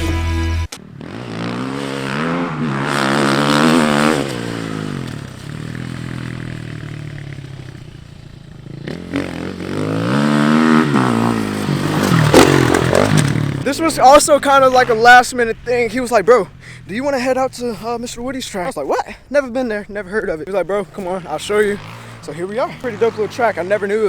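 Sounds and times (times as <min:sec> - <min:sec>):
dirt bike engine revving: 0:00.8 - 0:24.0.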